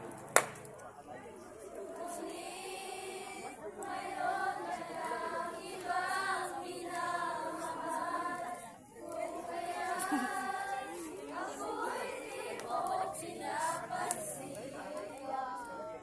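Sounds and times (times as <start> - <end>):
group singing in unison: 1.8 - 16.0.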